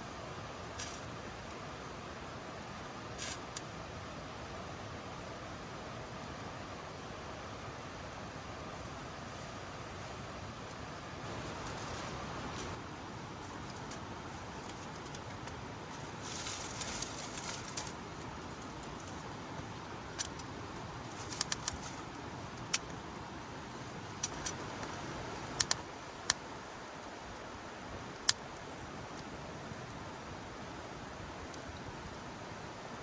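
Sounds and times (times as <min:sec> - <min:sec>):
fire low hiss: 0:00.0 - 0:33.0.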